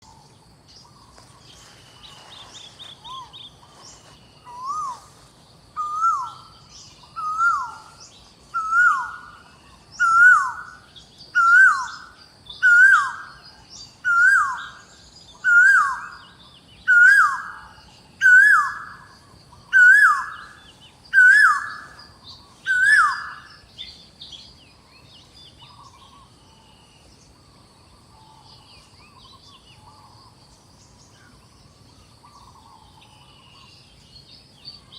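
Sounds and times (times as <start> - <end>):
bird calling: 0.0 - 34.0
high hum of insects: 0.0 - 34.9.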